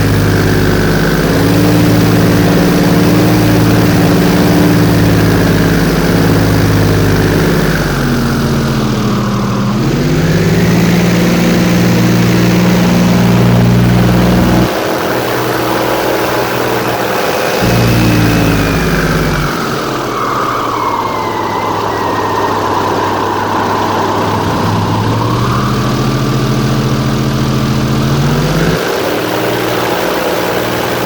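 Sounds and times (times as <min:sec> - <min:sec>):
airboat engine and propeller: 0:00.0 - 0:20.2, 0:21.8 - 0:31.0.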